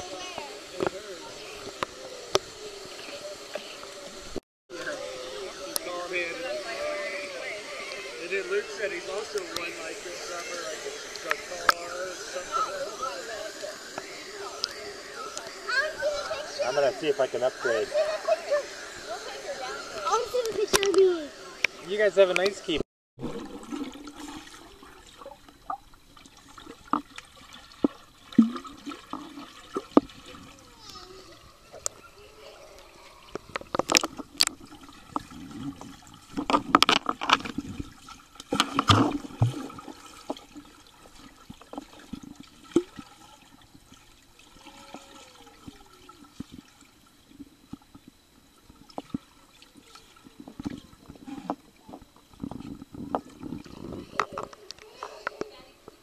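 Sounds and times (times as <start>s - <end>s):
churning water: 0.0s - 54.8s
underwater bubbling and sloshing: 0.0s - 56.0s.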